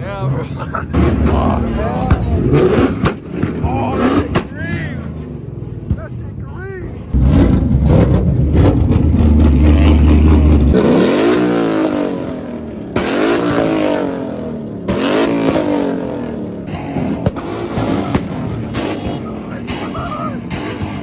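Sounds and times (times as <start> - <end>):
car accelerating through gears: 0.0 - 5.4, 7.1 - 21.0
car engine revving with crackling pops: 0.6 - 6.2, 7.0 - 21.0.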